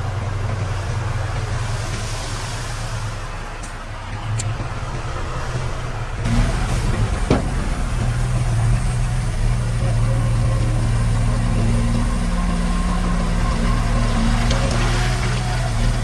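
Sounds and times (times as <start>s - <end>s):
diesel engine running at low revs: 0.0s - 16.0s.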